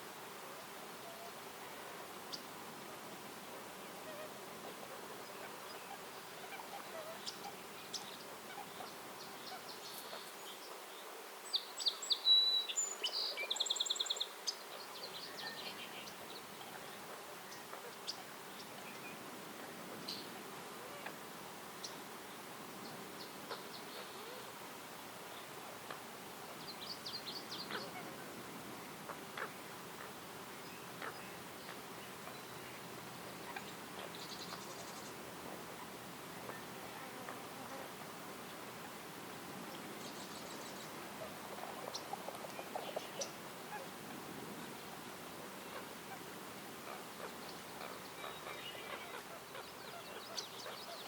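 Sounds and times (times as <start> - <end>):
faint background hiss: 0.0 - 51.0
forest birds chirping: 0.6 - 51.0.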